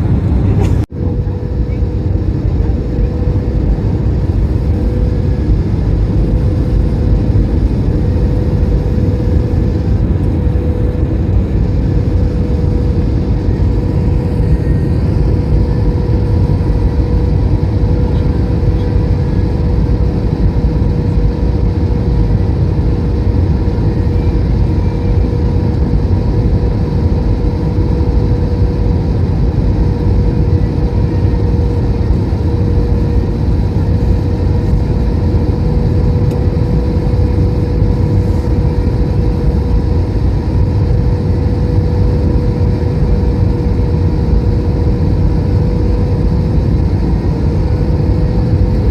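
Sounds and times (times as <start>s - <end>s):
constant hum: 0.0s - 48.9s
jet engine and airflow roar: 0.0s - 48.9s.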